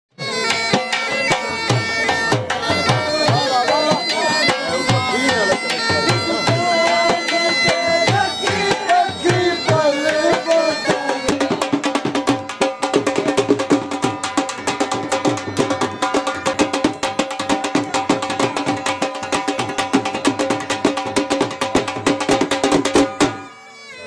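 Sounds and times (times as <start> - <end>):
bagpipe folk melody with drones: 0.2 - 20.0, 22.8 - 24.0
drum beating rhythm: 0.2 - 23.5.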